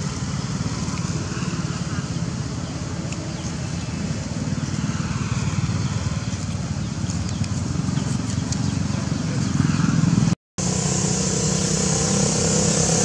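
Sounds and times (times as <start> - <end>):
motor engine droning: 0.0 - 13.0.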